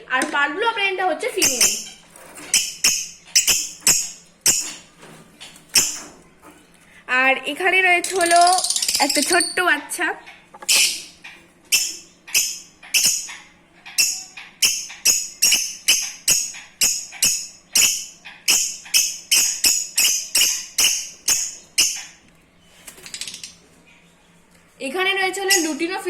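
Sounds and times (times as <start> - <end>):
lovebirds calling shrilly: 1.4 - 6.1, 8.1 - 24.4, 25.4 - 26.0.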